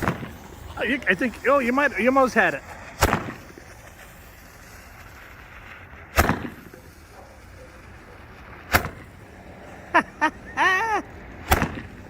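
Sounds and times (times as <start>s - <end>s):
firework bang: 0.0s - 12.0s.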